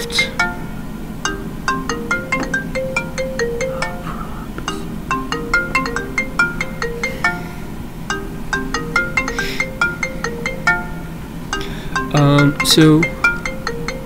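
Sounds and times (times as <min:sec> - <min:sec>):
marimba phone ringtone: 0:00.0 - 0:14.0.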